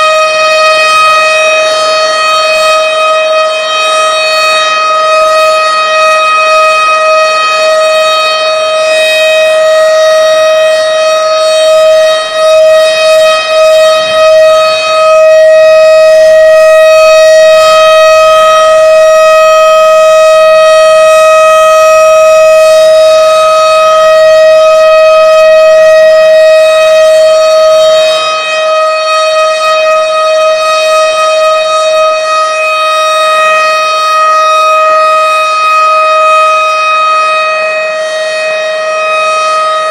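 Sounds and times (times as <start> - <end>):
tornado warning sirens wailing: 0.0 - 39.9.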